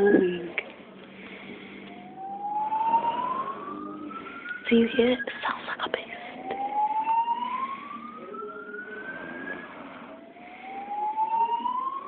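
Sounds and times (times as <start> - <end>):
siren wailing: 1.4 - 12.0.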